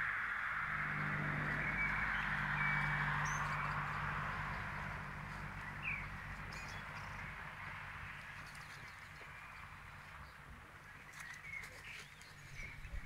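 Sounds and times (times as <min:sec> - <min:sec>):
low hum: 0:00.3 - 0:10.9
bird chirps: 0:00.7 - 0:13.0.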